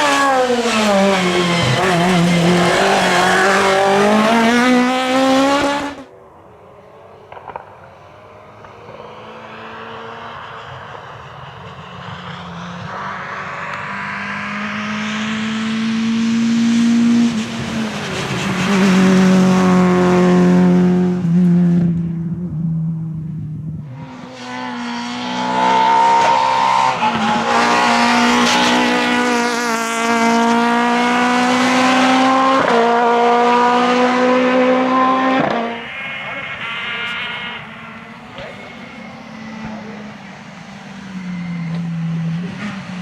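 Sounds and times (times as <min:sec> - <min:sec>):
rally car engine revving: 0:00.0 - 0:06.1, 0:07.2 - 0:43.0.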